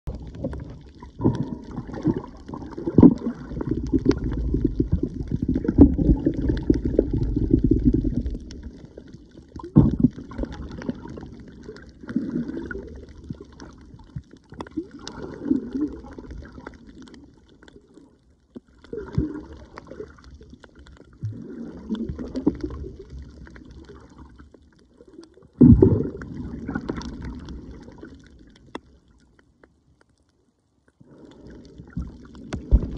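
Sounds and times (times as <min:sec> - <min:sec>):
underwater water gurgling: 0:00.0 - 0:32.9.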